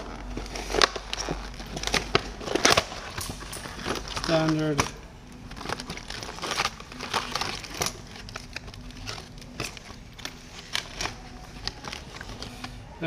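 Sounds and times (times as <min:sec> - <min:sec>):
small parts clicking and knocking: 0:00.0 - 0:12.8
faint steady hum: 0:00.0 - 0:13.0
rustling: 0:00.0 - 0:13.0.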